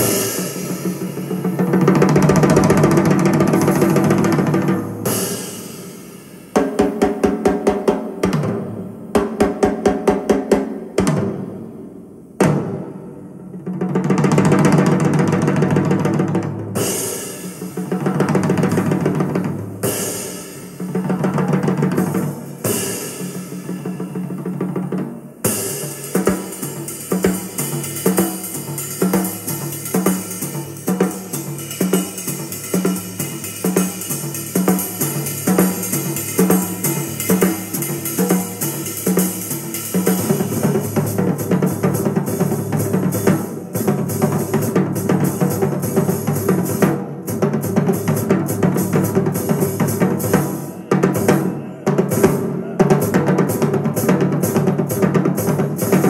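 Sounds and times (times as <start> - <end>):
drum-heavy music from loudspeaker: 0.0 - 11.5, 16.6 - 56.0.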